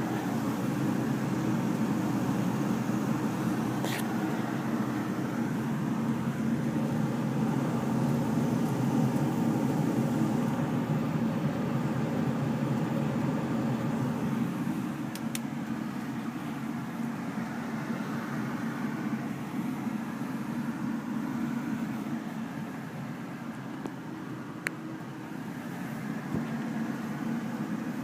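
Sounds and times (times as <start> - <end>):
gas furnace rushing: 0.0 - 28.0.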